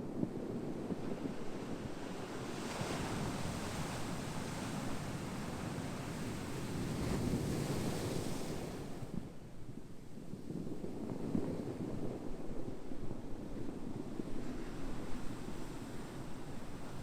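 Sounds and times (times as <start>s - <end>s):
low rumble of the sea: 0.0s - 17.0s.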